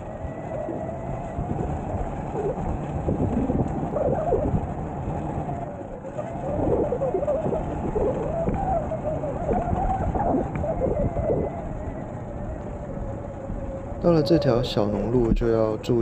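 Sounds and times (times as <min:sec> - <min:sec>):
electric motor whine: 0:00.0 - 0:16.0
wind and tyre noise: 0:00.0 - 0:16.0.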